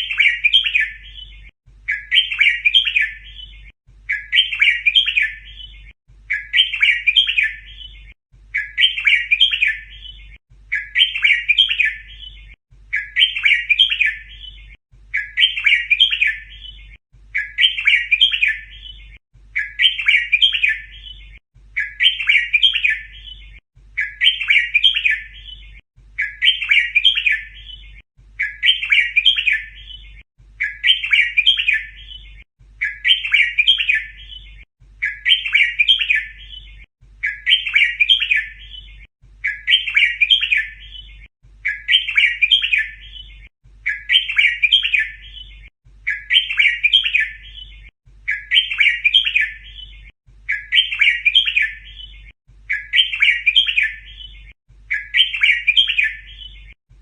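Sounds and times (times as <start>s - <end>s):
bulbul song: 0.0s - 56.8s.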